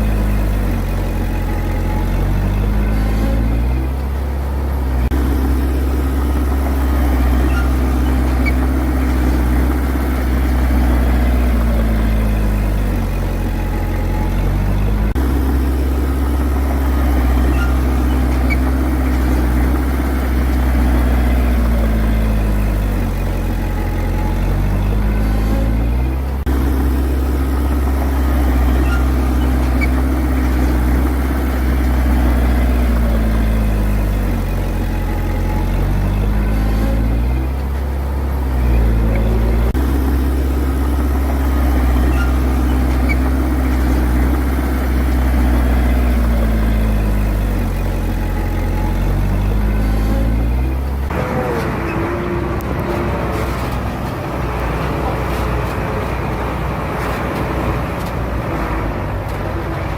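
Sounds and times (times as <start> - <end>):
diesel engine under heavy load: 0.0 - 59.9.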